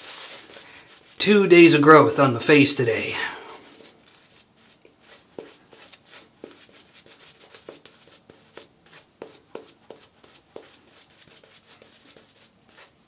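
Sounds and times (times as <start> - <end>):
shaving brush strokes: 0.0 - 1.8, 2.8 - 13.0.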